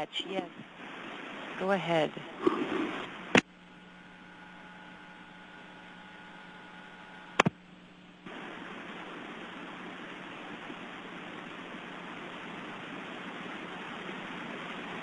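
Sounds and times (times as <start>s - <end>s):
radio feed hiss: 0.0s - 7.6s, 8.2s - 15.0s
faint hum tones: 0.0s - 15.0s.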